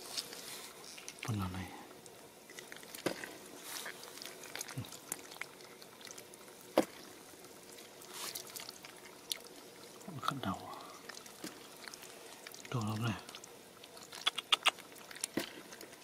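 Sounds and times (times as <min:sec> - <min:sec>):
small water splashes: 0:00.8 - 0:16.0.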